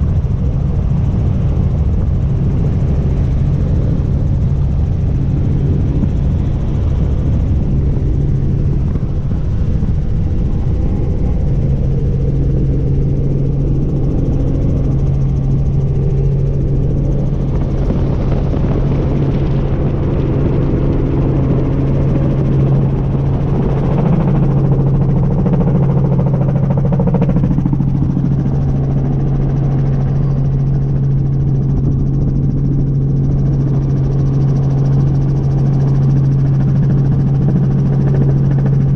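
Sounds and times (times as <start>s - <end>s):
constant low hum: 0.0s - 38.9s
helicopter rotor and engine drone: 0.0s - 38.9s.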